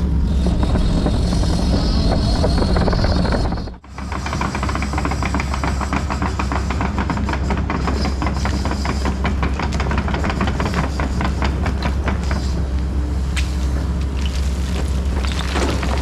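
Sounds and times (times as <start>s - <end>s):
diesel engine running: 0.0s - 7.0s, 8.5s - 16.0s.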